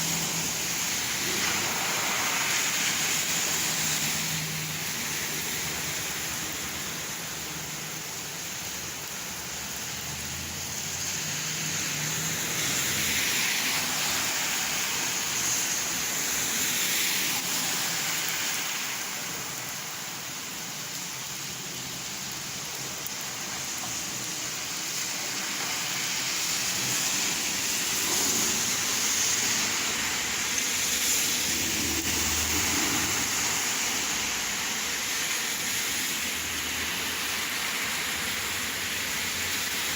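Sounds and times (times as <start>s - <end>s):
rain falling and splashing: 0.0s - 39.9s.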